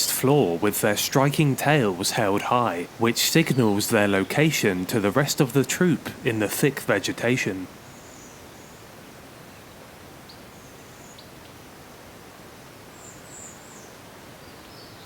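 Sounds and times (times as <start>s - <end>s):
steady faint hiss: 0.0s - 15.0s.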